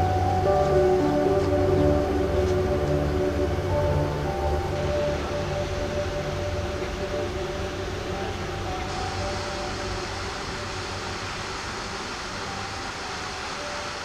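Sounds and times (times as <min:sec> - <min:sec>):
faint steady tones: 0:00.0 - 0:14.0
waterfall rushing into sea: 0:00.0 - 0:14.0.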